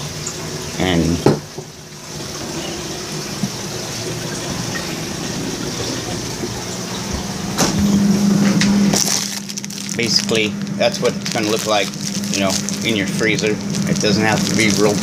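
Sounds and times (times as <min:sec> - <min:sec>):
aquarium water rushing and splashing: 0:00.0 - 0:15.0
steady low hum: 0:00.0 - 0:15.0.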